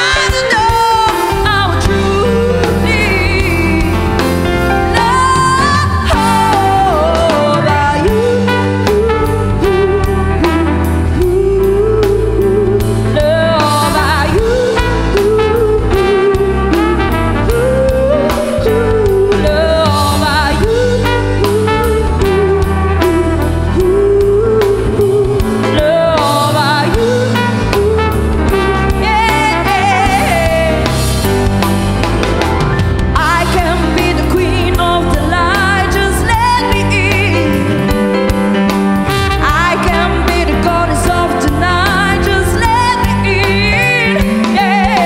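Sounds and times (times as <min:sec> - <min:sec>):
woman singing: 0:00.0 - 0:31.1, 0:33.1 - 0:45.0
live band playing: 0:00.0 - 0:45.0.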